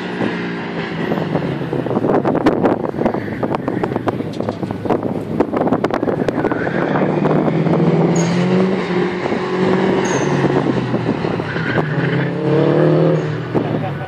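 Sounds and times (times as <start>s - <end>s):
distant racing car engines: 0.0s - 14.0s
wind buffeting microphone: 0.0s - 14.0s.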